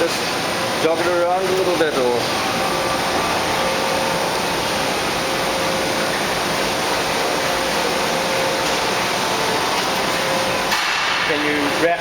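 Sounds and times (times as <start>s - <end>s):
machining center whirring: 0.0s - 12.0s.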